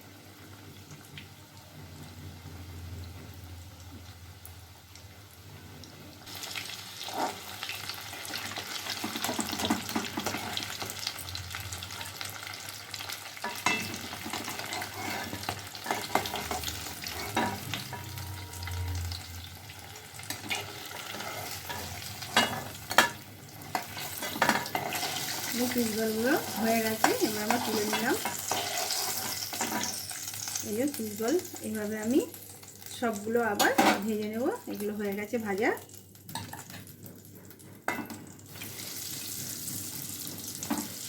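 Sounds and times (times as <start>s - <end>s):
food deep-frying in oil: 0.0s - 41.0s.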